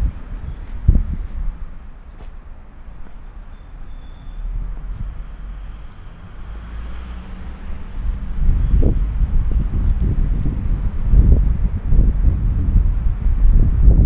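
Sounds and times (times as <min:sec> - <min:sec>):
street traffic rumble: 0:00.0 - 0:14.0
wind buffeting microphone: 0:00.0 - 0:14.0.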